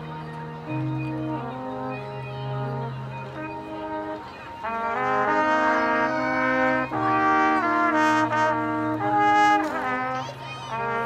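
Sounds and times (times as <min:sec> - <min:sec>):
marching band brass chords: 0:00.0 - 0:11.0.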